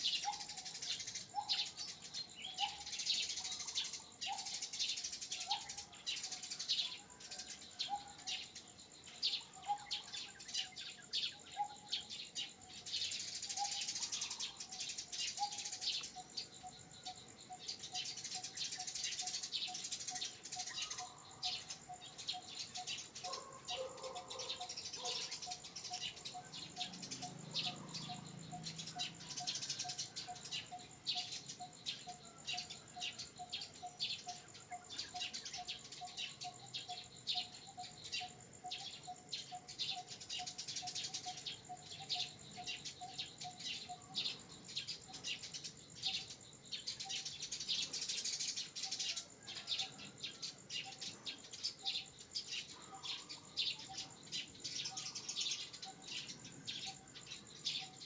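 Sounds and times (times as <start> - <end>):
birds chirping: 0.0 - 58.0
high insect whine: 0.0 - 58.0.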